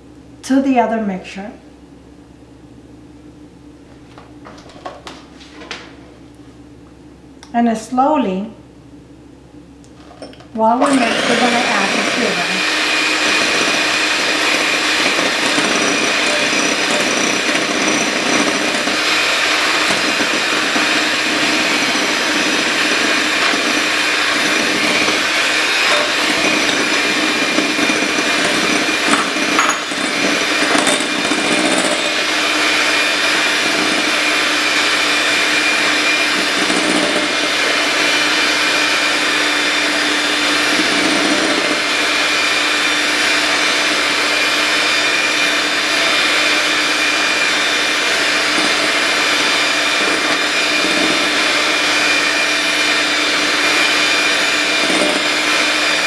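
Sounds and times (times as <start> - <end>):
electric hand mixer whirring: 10.4 - 56.0.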